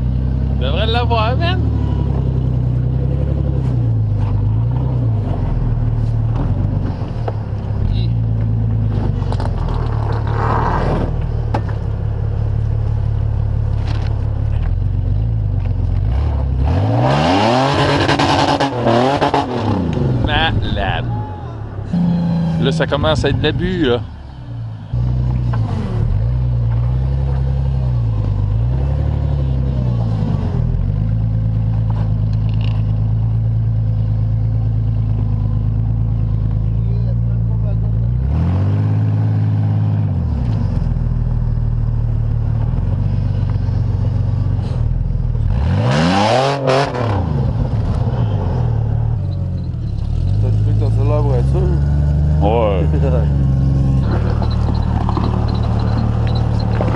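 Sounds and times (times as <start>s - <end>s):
truck engine running and revving: 0.0s - 56.9s.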